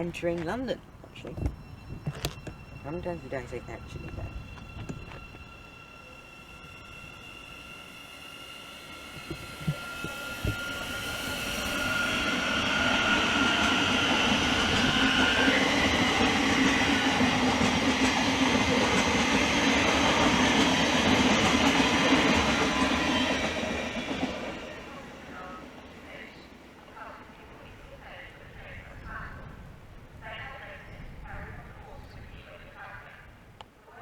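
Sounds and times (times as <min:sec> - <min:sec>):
train running past: 0:00.0 - 0:33.3.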